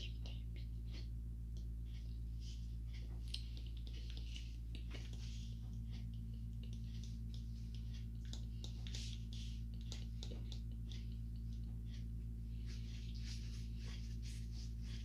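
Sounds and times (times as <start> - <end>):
faint clicks and rustles: 0.0 - 15.0
low hum: 0.0 - 15.0.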